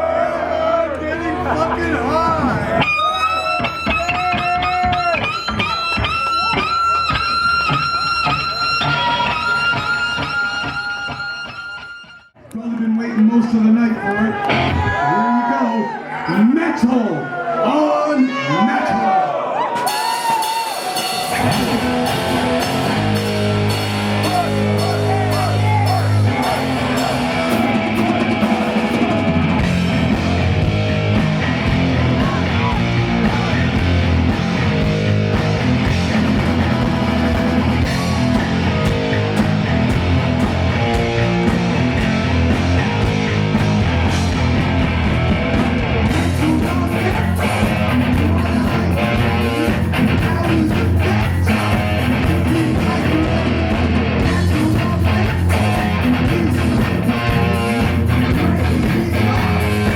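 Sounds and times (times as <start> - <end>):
rock band playing live: 1.3 - 12.3, 14.5 - 15.0, 19.6 - 59.9.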